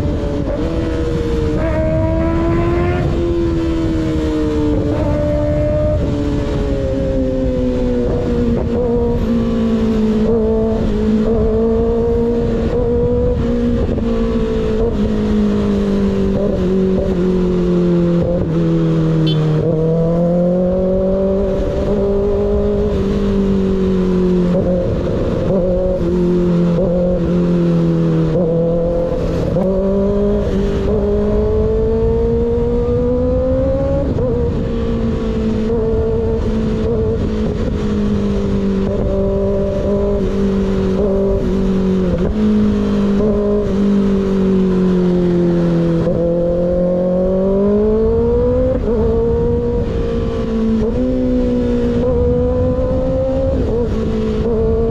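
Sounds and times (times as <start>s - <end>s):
motorcycle engine cruising: 0.0s - 54.9s.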